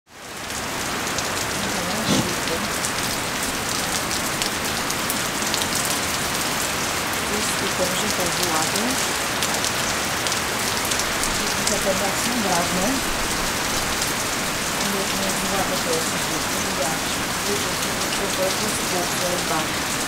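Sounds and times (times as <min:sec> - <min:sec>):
heavy rain falling: 0:00.1 - 0:20.0.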